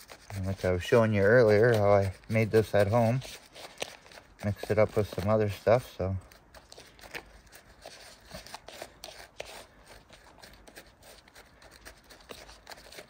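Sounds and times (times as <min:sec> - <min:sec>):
seeds scraping and rustling: 0:00.0 - 0:13.0.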